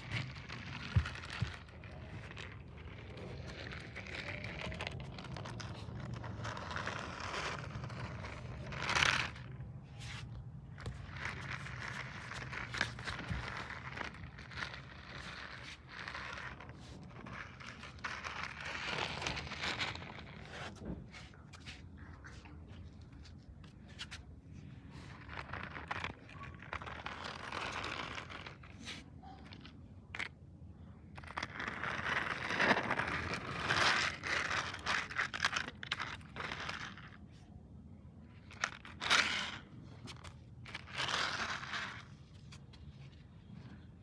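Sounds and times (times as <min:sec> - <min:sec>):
crinkling and scraping handling noise: 0:00.0 - 0:44.0.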